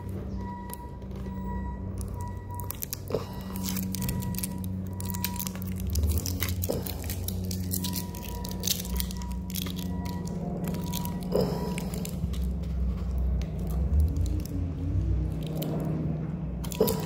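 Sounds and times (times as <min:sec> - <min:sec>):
stiff plastic packaging crackling: 0:00.0 - 0:17.0.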